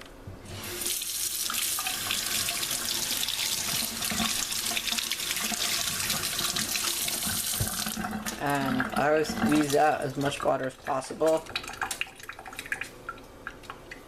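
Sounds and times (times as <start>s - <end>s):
water running from tap: 0.5s - 13.6s.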